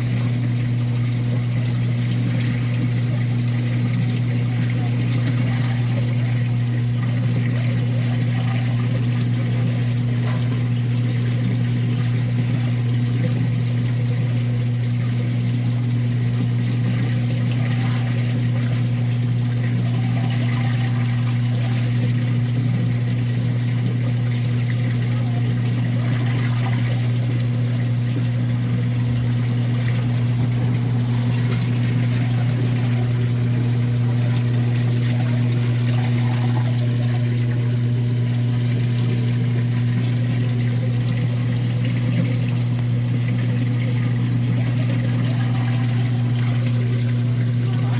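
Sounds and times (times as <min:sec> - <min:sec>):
low mechanical hum: 0:00.0 - 0:47.9
water running and trickling: 0:00.0 - 0:47.9.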